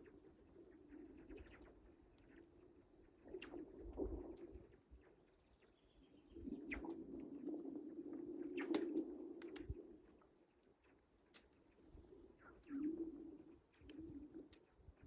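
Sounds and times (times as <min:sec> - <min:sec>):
low moaning hum of ice: 0:00.0 - 0:15.0.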